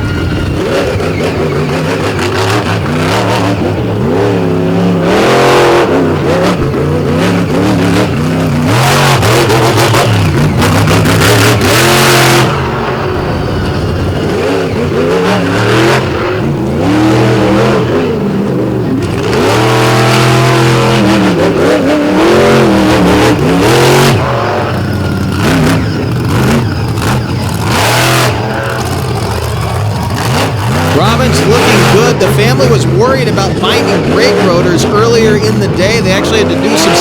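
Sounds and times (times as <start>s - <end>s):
monster truck engine revving: 0.0s - 37.0s.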